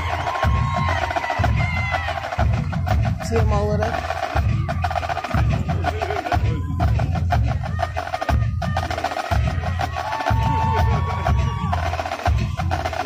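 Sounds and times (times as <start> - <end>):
marching drum line: 0.0 - 13.0
pulsing bass drum: 0.0 - 13.0.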